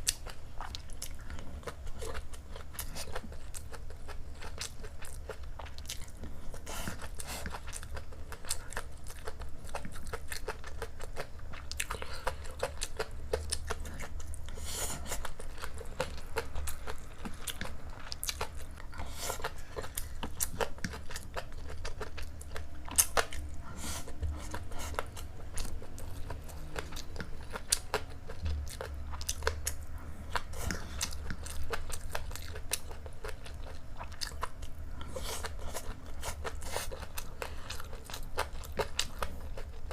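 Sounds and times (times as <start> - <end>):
low steady hum: 0.0 - 39.9
person chewing food: 0.0 - 39.9.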